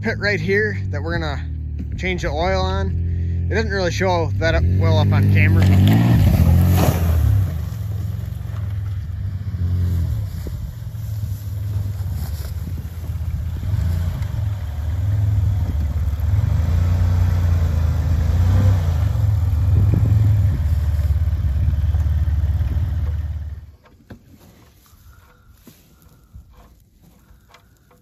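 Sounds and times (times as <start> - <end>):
minivan engine revving: 0.0 - 23.8.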